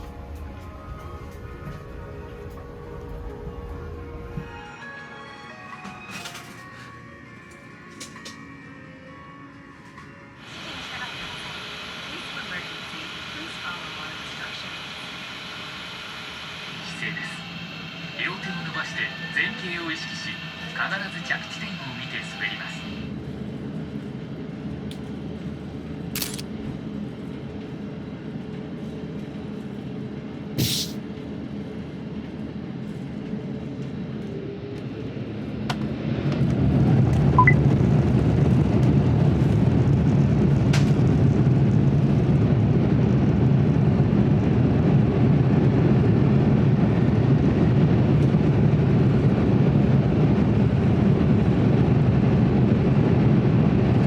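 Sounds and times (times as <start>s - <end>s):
rumble of takeoff roll: 0.0s - 5.0s, 10.4s - 54.0s
aircraft engines humming: 0.0s - 54.0s
jet engines whining: 10.3s - 54.0s.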